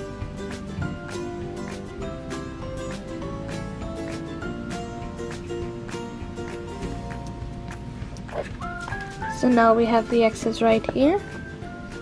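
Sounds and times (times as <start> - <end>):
music with held notes and beat: 0.0 - 12.0.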